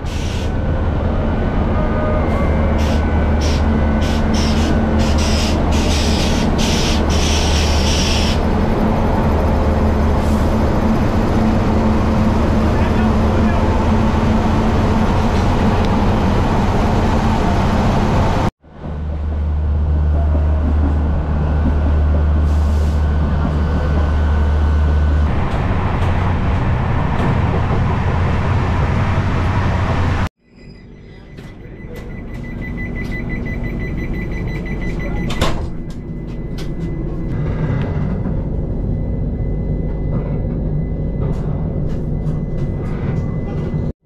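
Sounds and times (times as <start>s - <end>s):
train noise: 0.0s - 43.9s.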